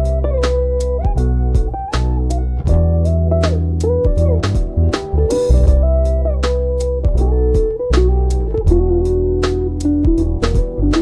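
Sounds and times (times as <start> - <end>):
guitar-led music with drums: 0.0 - 11.0.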